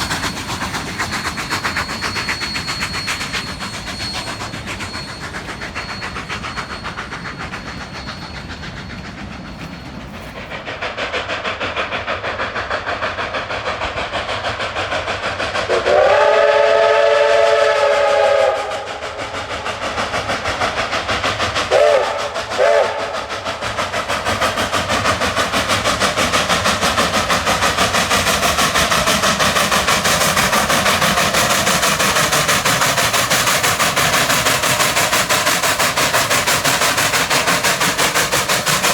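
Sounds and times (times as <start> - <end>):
steam locomotive chime whistle: 0.0 - 10.4, 15.6 - 19.8, 21.7 - 38.9
steam locomotive exhaust beating: 0.0 - 38.9.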